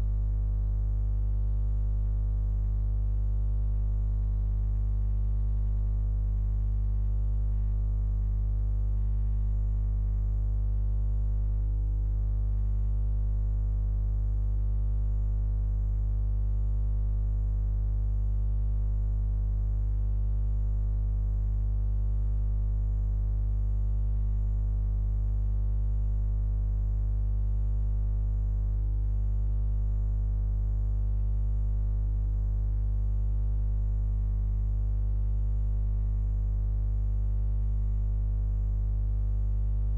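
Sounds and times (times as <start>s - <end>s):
mains hum: 0.0s - 39.9s.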